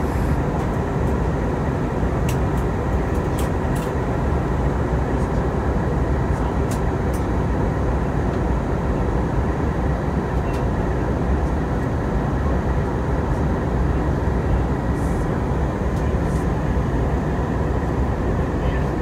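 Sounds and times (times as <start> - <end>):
airplane cabin engine rush: 0.0 - 19.0.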